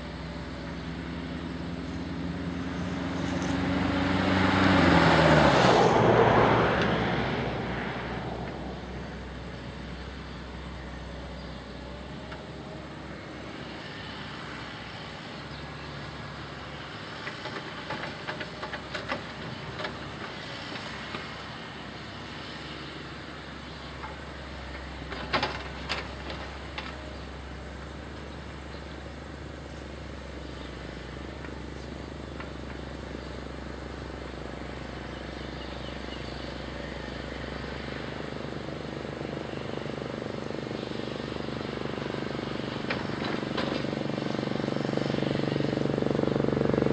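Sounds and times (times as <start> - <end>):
heavy diesel machinery running: 0.0 - 46.9.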